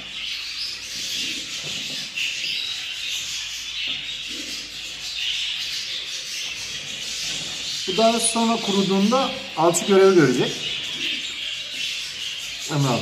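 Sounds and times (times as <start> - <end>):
budgerigar chattering and squawking: 0.0 - 13.0.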